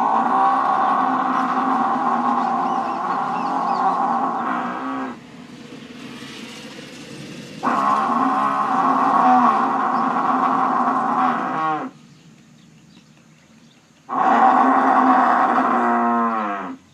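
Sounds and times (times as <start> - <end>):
buffalo lowing: 0.0 - 16.9.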